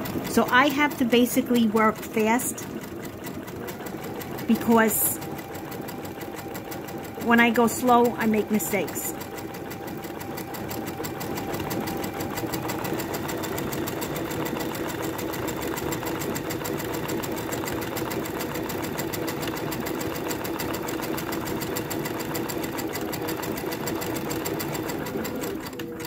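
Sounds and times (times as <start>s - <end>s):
sewing machine running fast: 0.0s - 26.0s.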